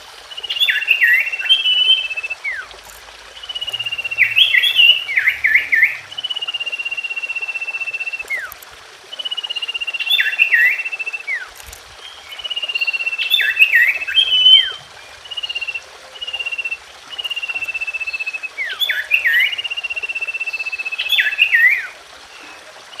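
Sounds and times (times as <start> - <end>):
bird song trills and whistles: 0.3 - 23.0.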